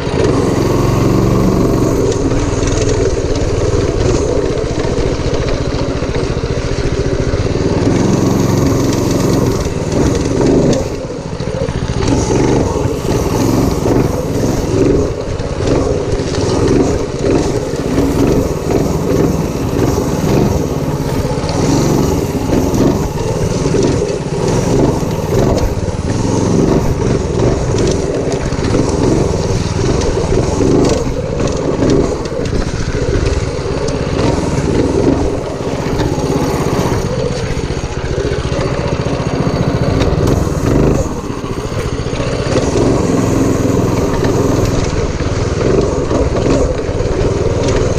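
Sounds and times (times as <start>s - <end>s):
small engine running hard: 0.0s - 47.9s.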